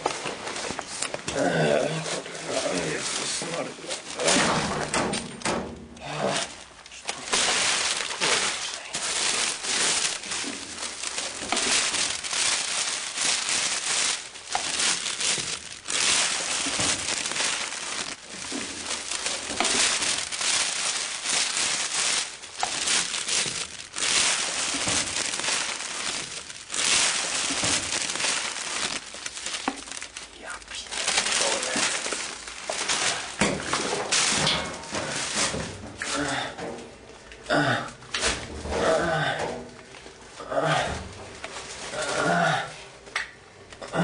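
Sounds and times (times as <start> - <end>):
plastic sheeting rustling: 0.0 - 37.0, 38.1 - 42.8.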